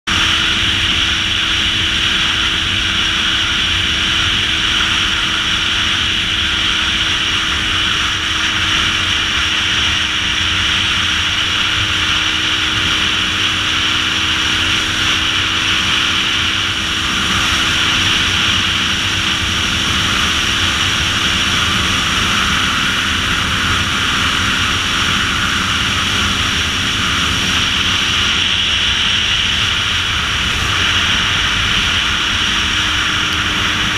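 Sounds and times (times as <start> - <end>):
motorcycle engine drone: 0.0 - 33.9
wind rushing over microphone: 0.1 - 33.9.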